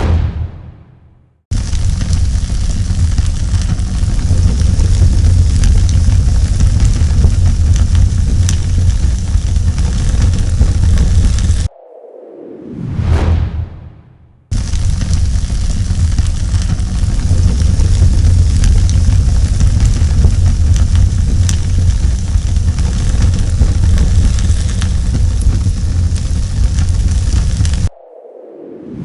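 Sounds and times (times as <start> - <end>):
flames burning with crackles: 1.5 - 11.7, 14.5 - 27.9.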